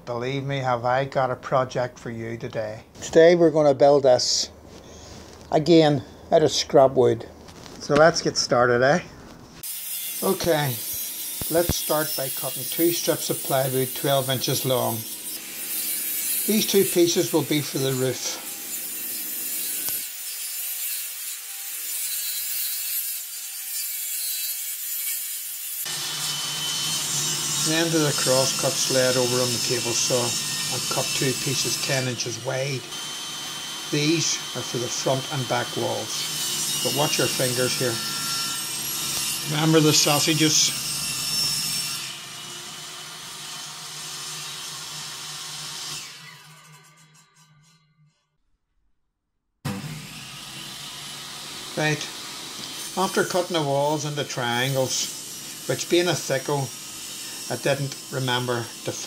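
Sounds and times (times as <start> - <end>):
circular saw cutting wood: 9.6 - 48.2, 49.7 - 59.0.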